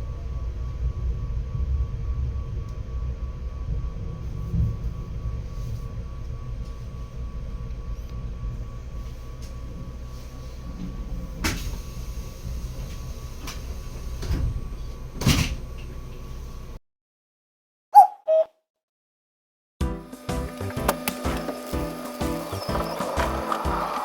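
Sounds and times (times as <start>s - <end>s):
train rumbling: 0.0s - 16.8s, 20.0s - 24.0s.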